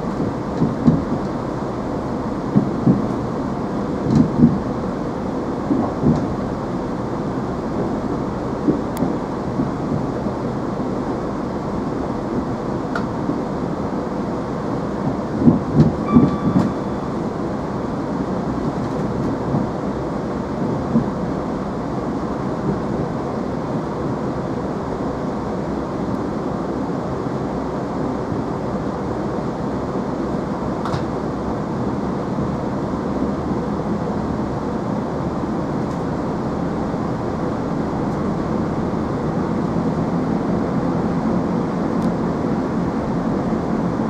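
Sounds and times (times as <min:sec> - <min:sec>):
train running rumble: 0:00.0 - 0:44.0.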